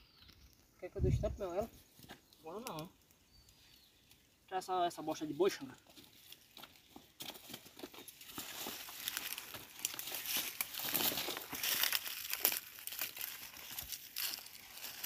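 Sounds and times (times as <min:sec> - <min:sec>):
branches rustling and scraping: 0:00.0 - 0:15.0
leaves and twigs crunching underfoot: 0:00.0 - 0:15.0.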